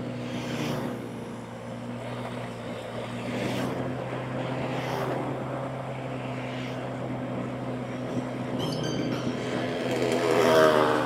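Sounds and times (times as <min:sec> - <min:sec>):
motorbike engine cruising: 0:00.0 - 0:11.0.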